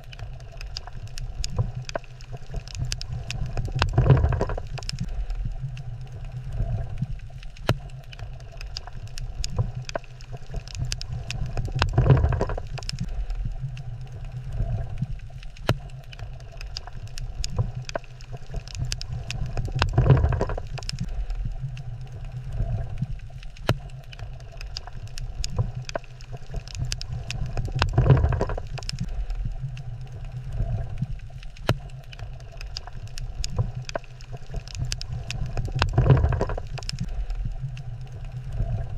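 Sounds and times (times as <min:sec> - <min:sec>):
sharp clicks and crackles: 0:00.0 - 0:38.9
underwater rush of moving water: 0:00.0 - 0:38.9.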